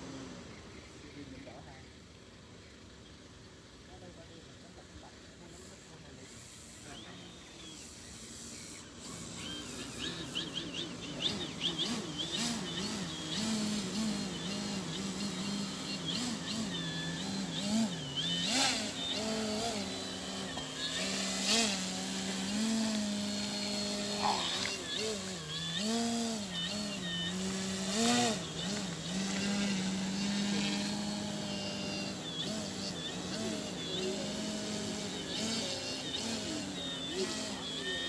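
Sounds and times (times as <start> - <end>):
model airplane engine running: 0.0 - 38.0.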